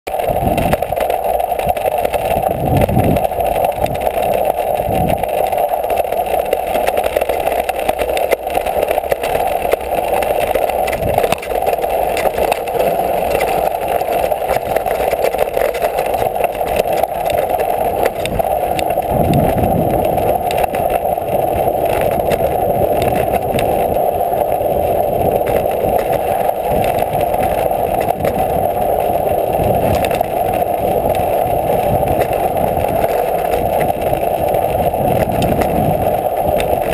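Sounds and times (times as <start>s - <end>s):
bike tyres rolling on gravel: 0.1s - 36.9s
wind noise: 0.1s - 36.9s.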